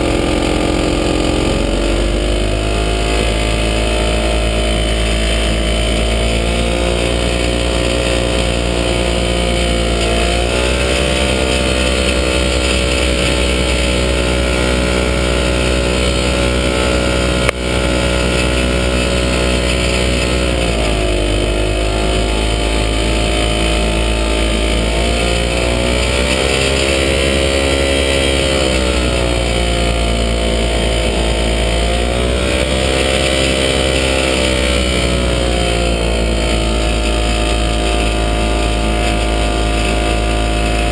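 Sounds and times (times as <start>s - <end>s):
light aircraft engine running: 0.0s - 40.9s.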